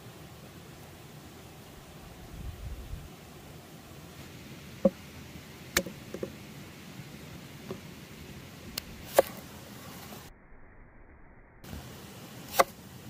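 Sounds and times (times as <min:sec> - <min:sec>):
faint outdoor hiss: 0:00.0 - 0:10.4, 0:11.6 - 0:13.0.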